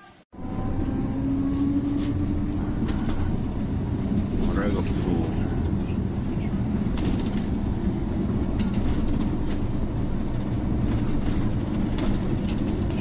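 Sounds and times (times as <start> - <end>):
coach engine and tyre rumble: 0.0 - 13.0.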